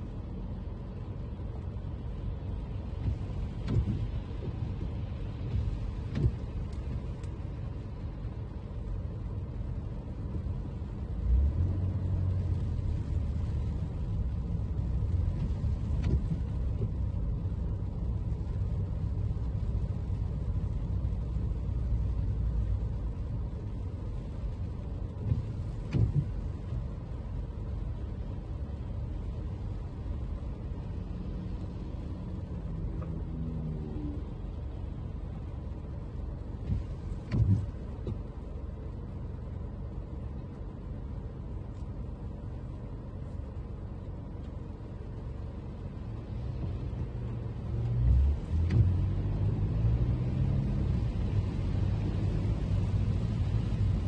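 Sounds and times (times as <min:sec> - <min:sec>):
tyre and engine rumble: 0:00.0 - 0:54.0.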